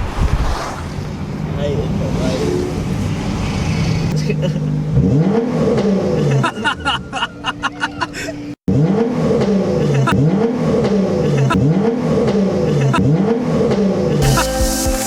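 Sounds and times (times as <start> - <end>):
car engine revving: 0.6 - 7.3, 8.7 - 15.0.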